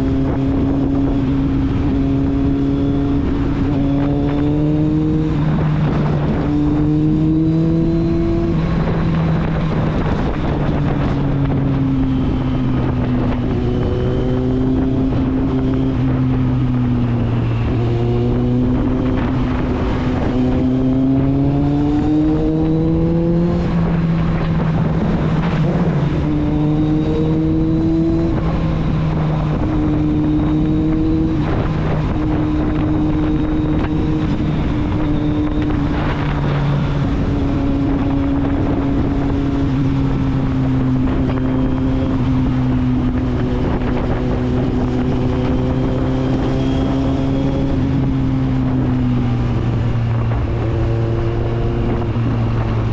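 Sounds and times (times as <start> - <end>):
motorcycle engine and exhaust: 0.0 - 52.9
wind noise on microphone: 0.0 - 52.9.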